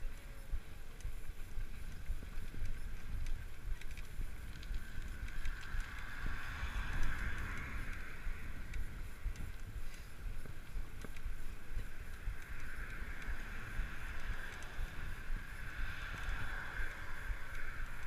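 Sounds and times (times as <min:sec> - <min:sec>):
low rumble of bicycle riding: 0:00.0 - 0:18.0
wind buffeting microphone: 0:00.0 - 0:18.0
car passing: 0:01.8 - 0:18.0.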